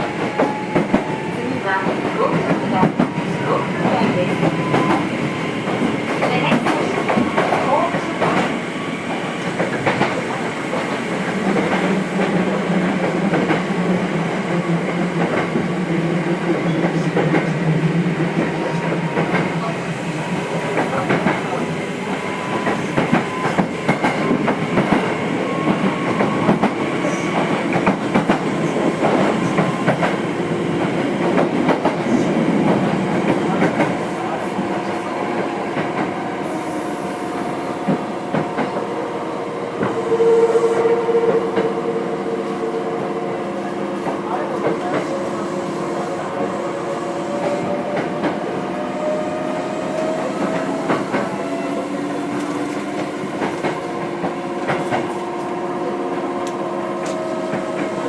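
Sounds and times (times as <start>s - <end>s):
train running noise: 0.0s - 58.0s.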